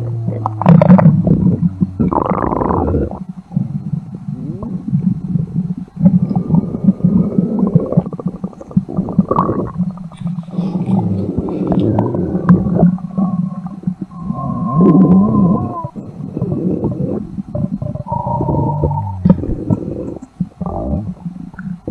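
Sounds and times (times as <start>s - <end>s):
stomach rumbling and gurgling: 0.0s - 21.9s.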